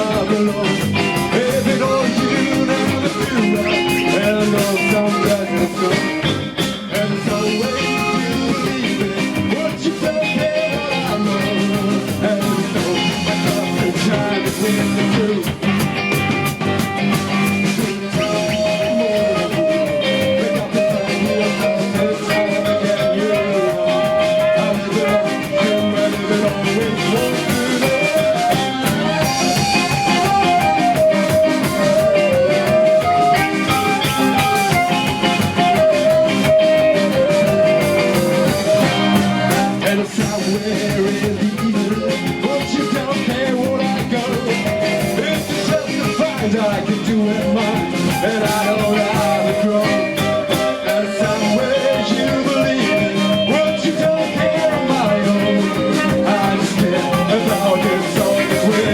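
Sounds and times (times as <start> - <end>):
lead guitar melody: 0.0 - 58.9
live rock band playing: 0.0 - 58.9.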